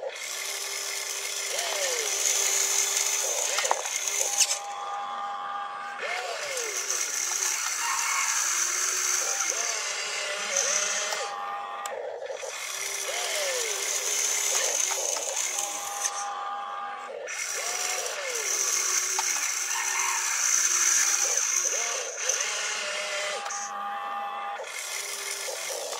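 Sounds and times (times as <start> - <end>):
toy excavator motors whining: 0.0 - 25.9.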